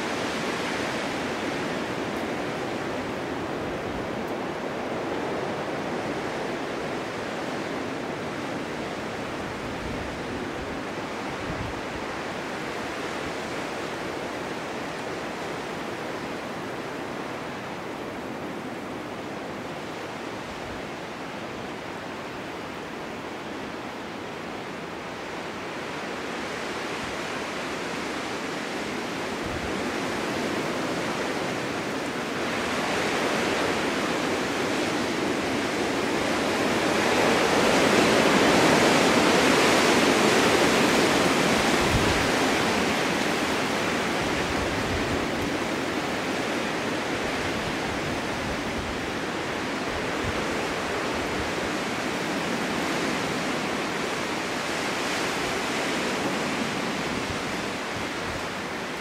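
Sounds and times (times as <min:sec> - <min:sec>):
snowstorm wind blowing: 0:00.0 - 0:59.0.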